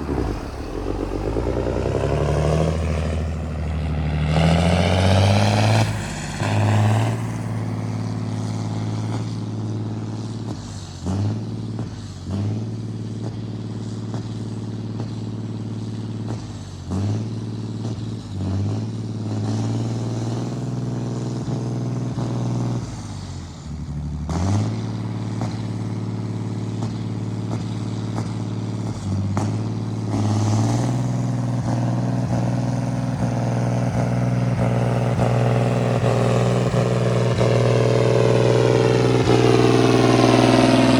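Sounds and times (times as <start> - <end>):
tractor diesel engine running: 0.0 - 18.3, 19.7 - 40.9.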